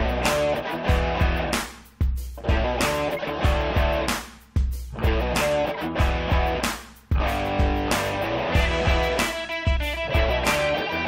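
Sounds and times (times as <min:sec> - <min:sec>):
strummed guitar music over beat: 0:00.0 - 0:11.0.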